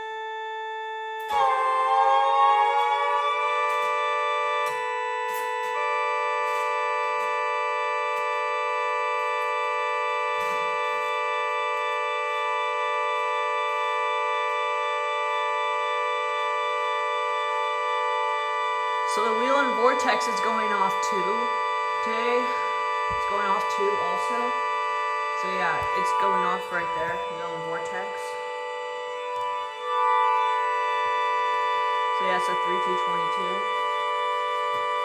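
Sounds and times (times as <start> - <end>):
siren two-note alert tone: 0.0 - 35.0.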